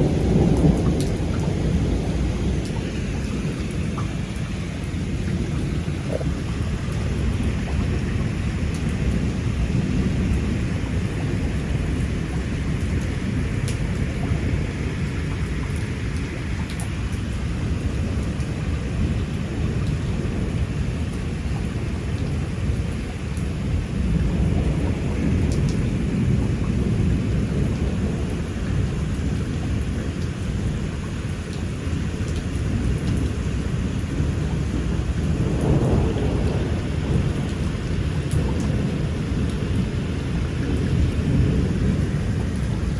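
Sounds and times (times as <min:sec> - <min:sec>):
heavy rain pouring: 0:00.0 - 0:42.9
low thunder rumble: 0:00.0 - 0:42.9.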